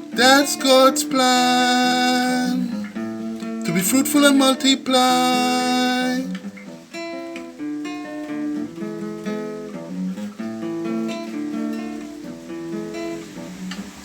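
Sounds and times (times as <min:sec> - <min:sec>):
plucked string notes: 0:00.0 - 0:13.9.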